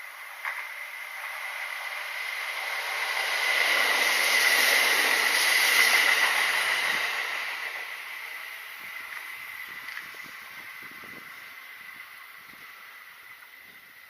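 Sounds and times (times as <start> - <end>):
electric train passing: 0.0 - 14.0.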